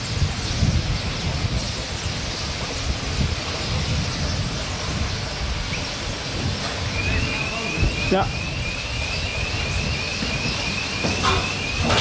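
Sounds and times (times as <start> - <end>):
cable car rumble: 0.0 - 12.0
wind gusting on microphone: 0.0 - 12.0.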